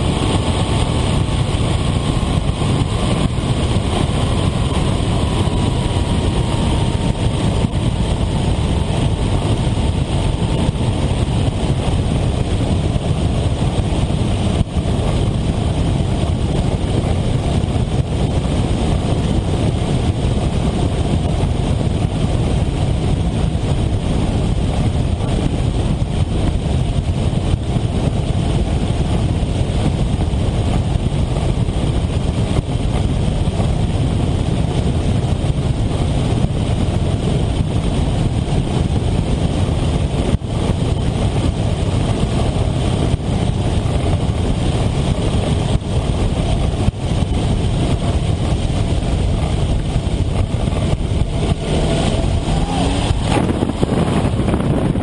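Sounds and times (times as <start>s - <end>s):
engine and propeller running: 0.0s - 55.0s
wind rushing over microphone: 0.0s - 55.0s.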